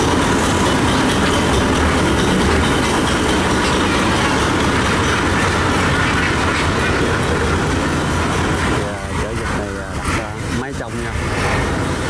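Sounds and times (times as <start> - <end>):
barge engine rumbling: 0.0 - 12.0
churning water noise: 0.0 - 12.0.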